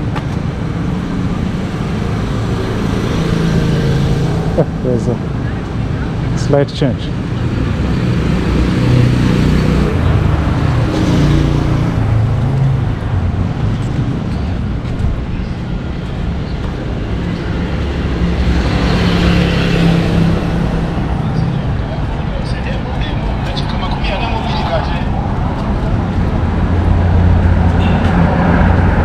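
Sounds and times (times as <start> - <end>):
traffic engines rumbling: 0.0 - 29.0
vehicle passing close: 0.0 - 29.0.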